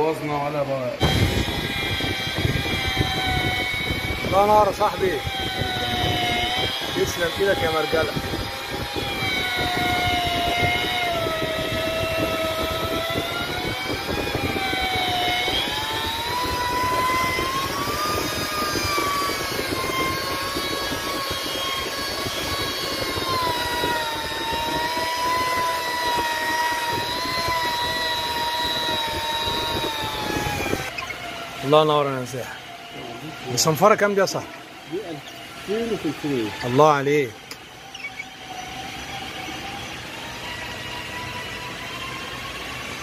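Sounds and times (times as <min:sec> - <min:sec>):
electric polisher whining: 0:01.0 - 0:43.0.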